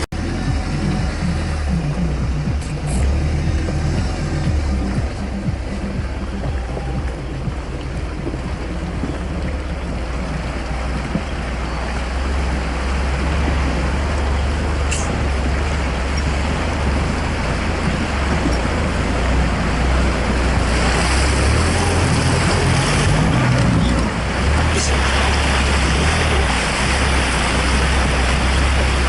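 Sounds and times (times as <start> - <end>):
off-road vehicle engine under load: 0.0 - 29.0.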